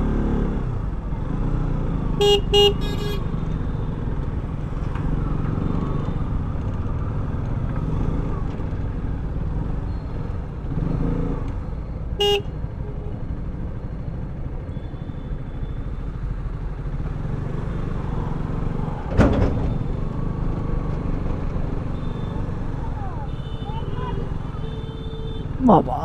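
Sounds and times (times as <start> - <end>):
vehicle rumble on road: 0.0 - 26.0.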